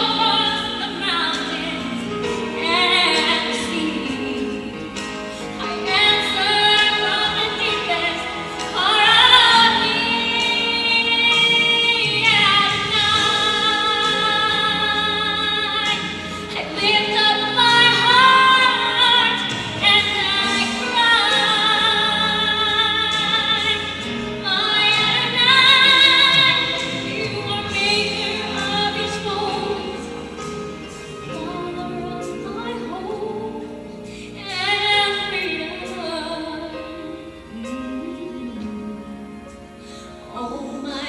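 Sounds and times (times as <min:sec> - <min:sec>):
musical accompaniment: 0:00.0 - 0:41.0.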